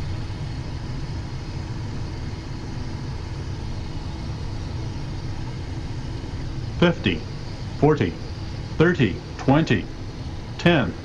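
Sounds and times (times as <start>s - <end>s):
jet engines and airflow rumble: 0.0s - 11.0s.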